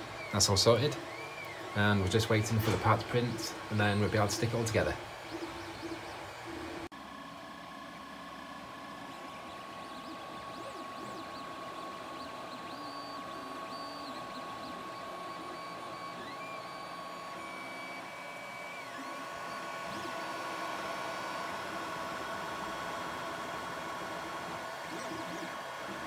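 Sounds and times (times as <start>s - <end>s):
printer fans humming: 0.0s - 26.0s
stepper motors whining: 0.0s - 26.0s.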